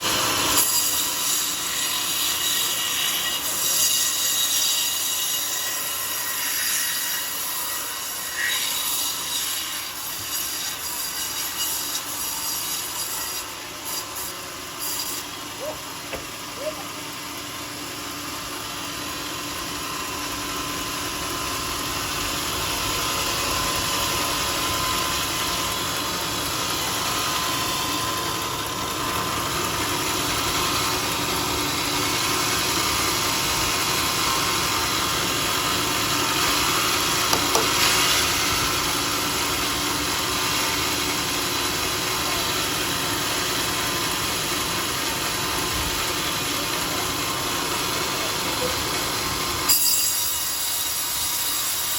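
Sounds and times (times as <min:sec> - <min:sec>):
sawmill motor and blade humming: 0:00.0 - 0:51.9.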